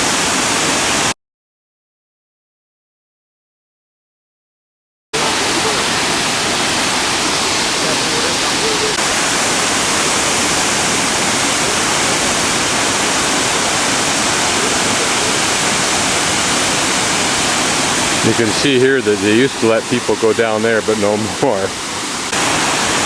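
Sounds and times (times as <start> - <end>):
rush of falling water: 0.0 - 1.2, 5.2 - 23.0.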